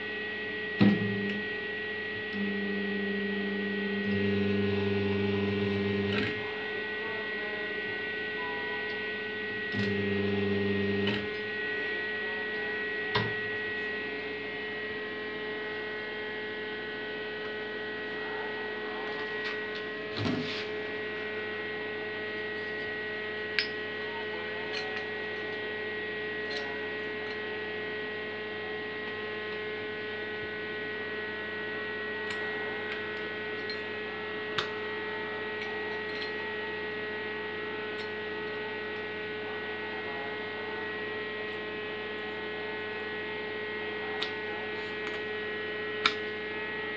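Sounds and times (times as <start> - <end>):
electrical mains hum: 0.0 - 46.9.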